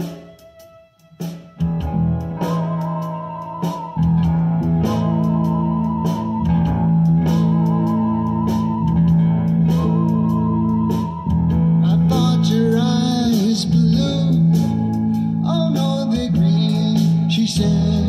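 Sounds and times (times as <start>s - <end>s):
bass guitar: 0.0s - 18.0s
guitar chords: 0.0s - 18.0s
person singing: 1.6s - 18.0s.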